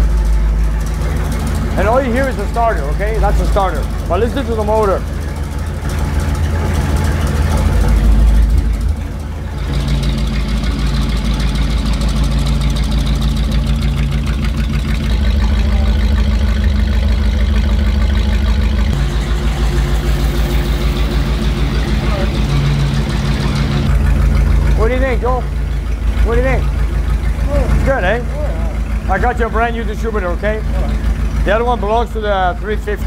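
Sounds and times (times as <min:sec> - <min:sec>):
engine running on dyno: 0:00.0 - 0:33.0
starter noise at flywheel: 0:00.0 - 0:33.0.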